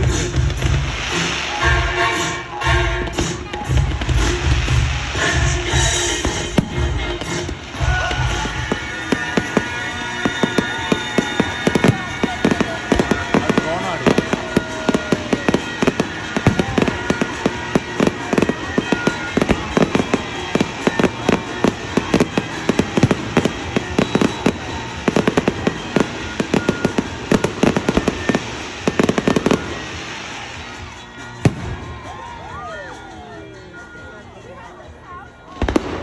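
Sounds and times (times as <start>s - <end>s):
fireworks crackling bangs: 0.0s - 32.5s, 35.6s - 36.0s.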